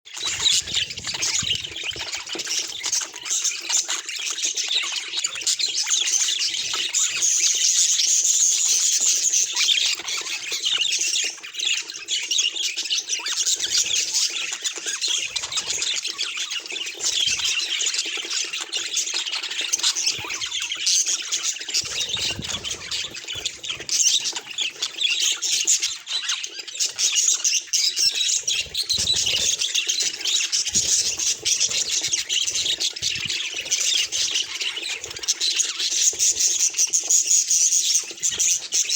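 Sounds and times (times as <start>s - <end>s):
budgerigars chattering and warbling: 0.1s - 38.9s.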